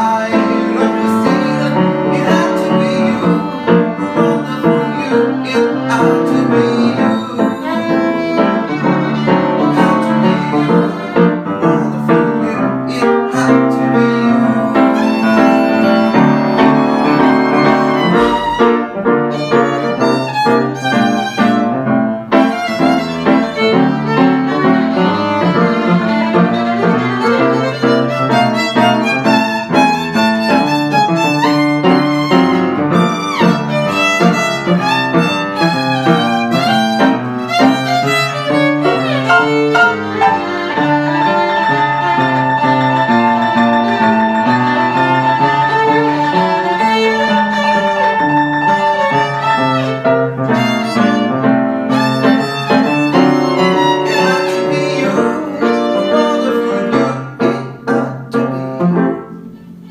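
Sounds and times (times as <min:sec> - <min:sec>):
violin playing: 0:00.0 - 0:57.6
upright piano playing: 0:00.0 - 0:59.9.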